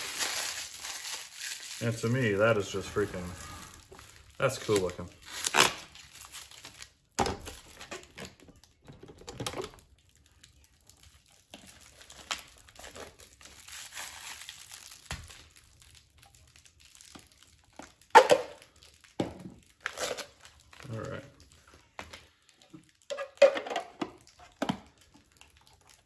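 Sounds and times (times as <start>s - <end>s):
plastic film crinkling: 0.0s - 8.9s, 9.6s - 23.2s, 24.1s - 26.0s.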